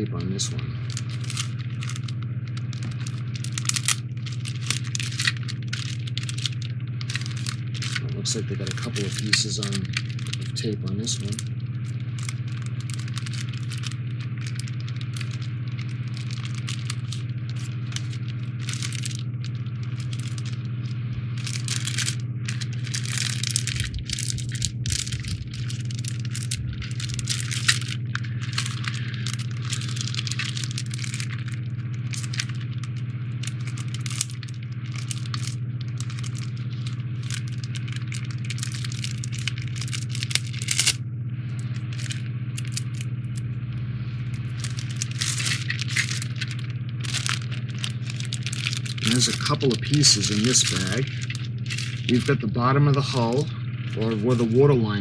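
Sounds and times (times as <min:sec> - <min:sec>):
plastic bag crinkling: 0:00.0 - 0:41.0, 0:41.6 - 0:43.5, 0:44.2 - 0:55.0
steady low hum: 0:00.0 - 0:55.0
plastic pieces rattling: 0:00.8 - 0:41.0, 0:41.9 - 0:43.4, 0:44.4 - 0:52.4.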